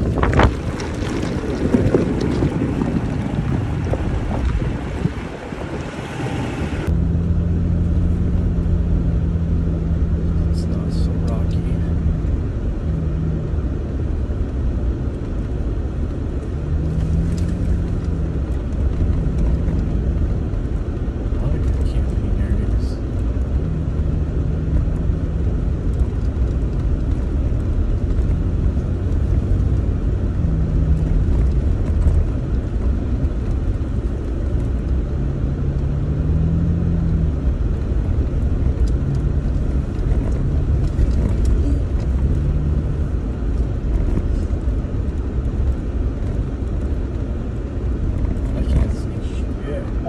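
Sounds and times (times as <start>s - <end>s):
vehicle engine and tyres rumbling: 0.0s - 50.0s.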